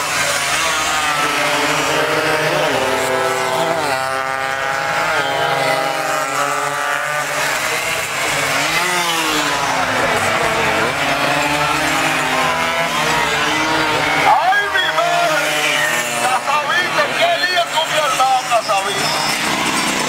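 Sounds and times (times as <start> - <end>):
motorcycles racing at full throttle: 0.0 - 20.0.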